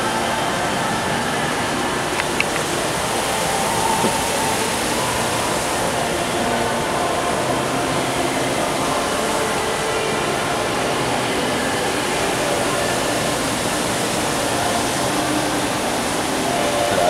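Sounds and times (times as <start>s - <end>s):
rushing water hiss: 0.0s - 17.0s.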